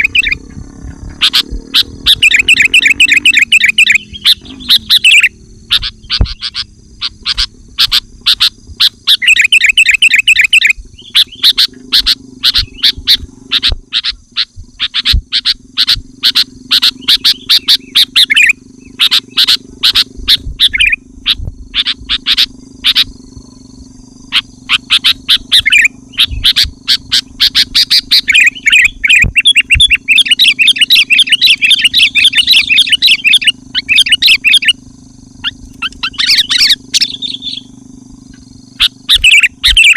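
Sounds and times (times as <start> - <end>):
bulbul singing chattering notes: 0.0 - 39.9
low steady hum: 0.0 - 39.9.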